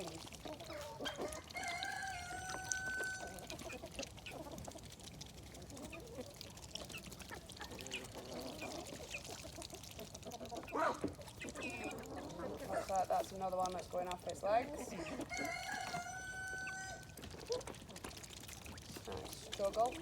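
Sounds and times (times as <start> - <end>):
poultry and ducks calling: 0.0 - 13.3, 14.5 - 20.0.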